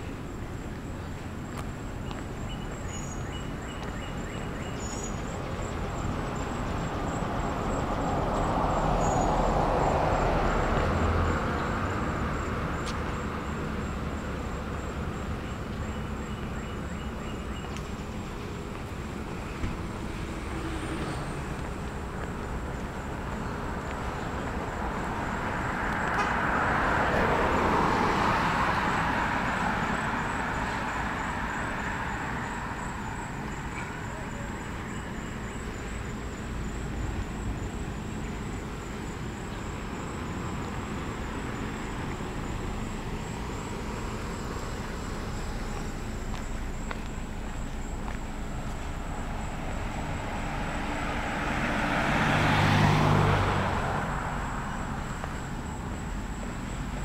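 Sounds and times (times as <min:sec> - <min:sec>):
car passing: 0:00.0 - 0:57.0.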